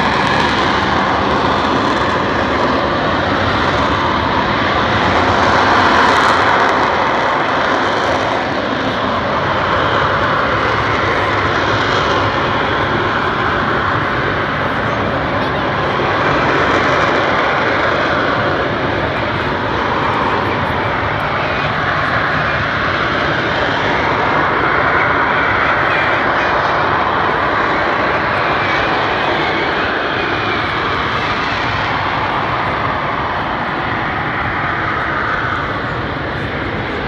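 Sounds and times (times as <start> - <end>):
jet engine running loud: 0.0 - 37.0.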